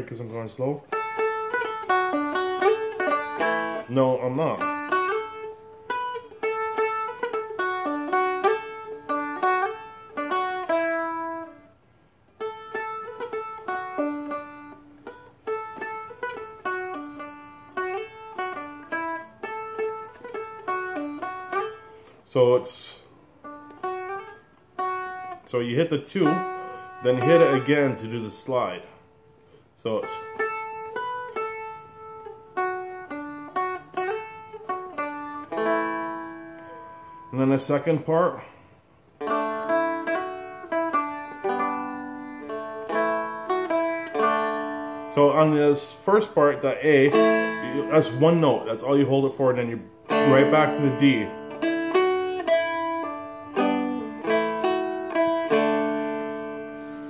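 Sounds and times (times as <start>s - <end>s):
strummed chord ringing: 0.0s - 11.8s, 12.4s - 38.4s, 39.2s - 57.0s
plucked string melody: 0.0s - 22.2s, 23.0s - 38.3s, 39.1s - 57.0s.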